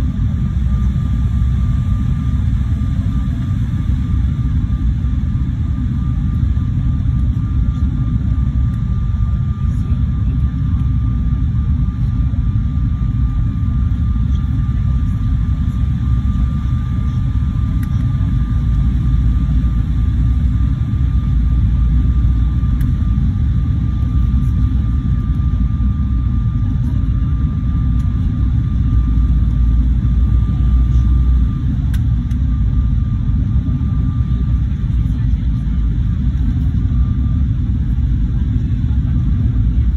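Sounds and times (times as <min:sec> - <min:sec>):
jet engine cabin rumble: 0:00.0 - 0:39.9
thin steady whine: 0:00.0 - 0:39.9.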